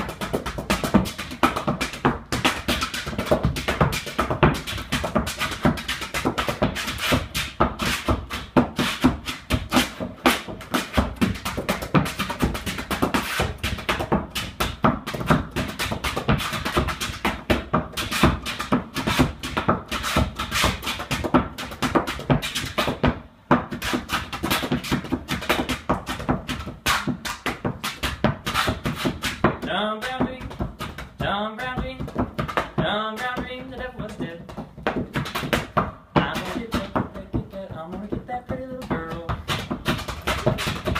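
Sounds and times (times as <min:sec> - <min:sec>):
hard shoes tapping on dance board: 0:00.0 - 0:40.9.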